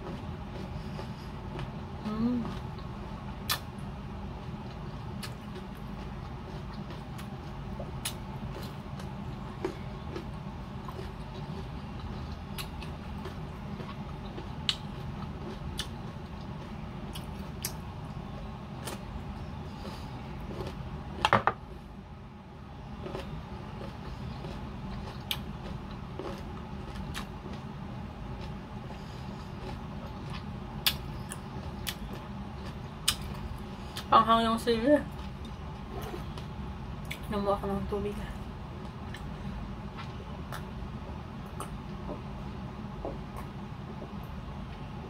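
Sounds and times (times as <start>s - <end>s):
person chewing: 0.0s - 3.8s, 4.4s - 21.3s, 23.0s - 34.1s, 35.1s - 37.3s, 38.8s - 42.4s, 43.0s - 44.9s
steady low hum: 0.0s - 45.0s.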